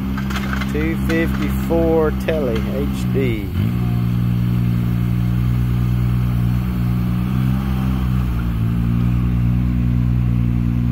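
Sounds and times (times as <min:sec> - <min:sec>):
mini loader engine running: 0:00.0 - 0:10.9.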